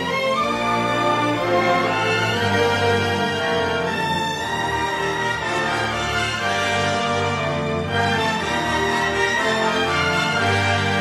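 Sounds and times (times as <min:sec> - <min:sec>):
orchestral music with held chords: 0:00.0 - 0:11.0.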